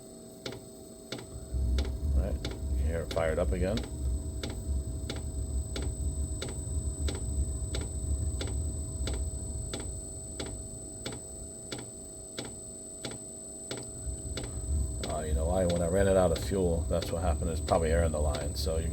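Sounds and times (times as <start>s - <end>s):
low rumble of burner: 1.0s - 18.9s.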